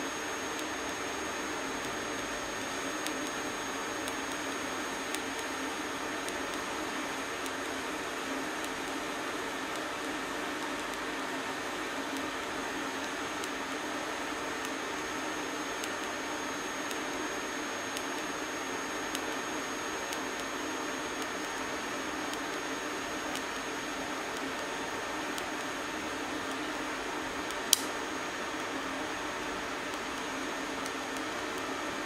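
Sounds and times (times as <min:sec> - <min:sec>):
welding arc hiss and buzz: 0:00.0 - 0:32.0.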